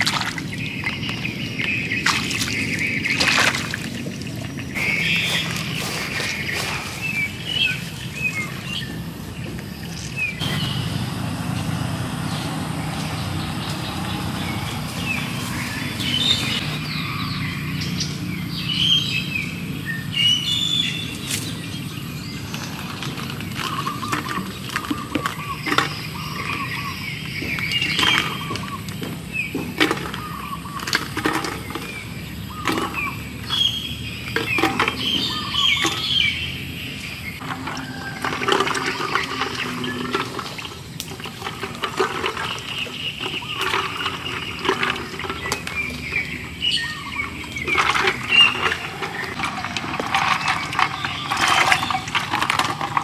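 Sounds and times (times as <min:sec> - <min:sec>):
small birds chirping: 0:00.0 - 0:38.2, 0:38.9 - 0:52.9
outdoor background noise: 0:00.0 - 0:53.0.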